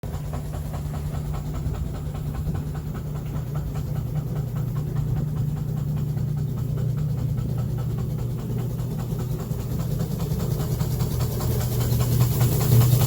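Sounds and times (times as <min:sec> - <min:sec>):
air compressor pumping: 0:00.0 - 0:13.0
electric motor hum: 0:00.2 - 0:13.0.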